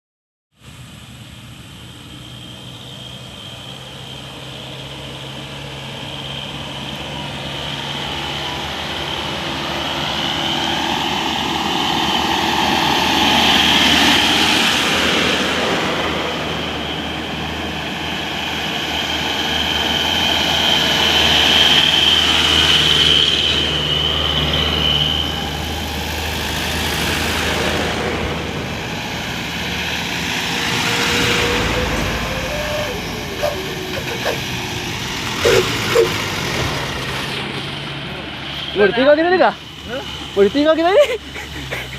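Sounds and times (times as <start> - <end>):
truck engines driving past: 0.6 - 41.9.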